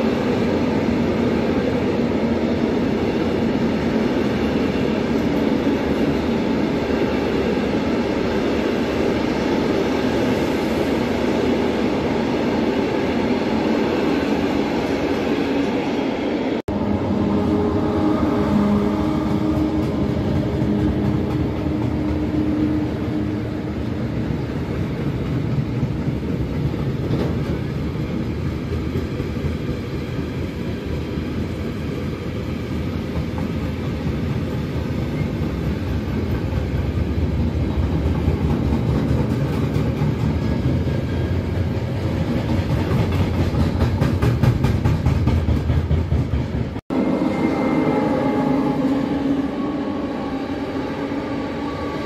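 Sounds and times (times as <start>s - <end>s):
train wheels rumbling: 0.0s - 52.0s.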